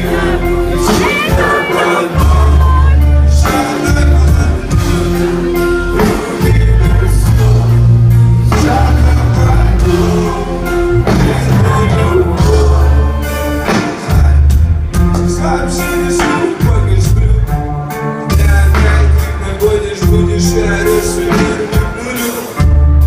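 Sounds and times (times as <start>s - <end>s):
pop music with heavy bass: 0.0s - 23.0s
singing voice: 0.0s - 23.0s.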